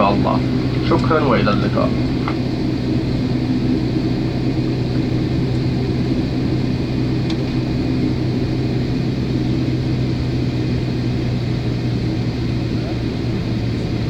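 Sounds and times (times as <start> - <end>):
constant low hum: 0.0 - 14.0
low rumble: 0.0 - 14.0.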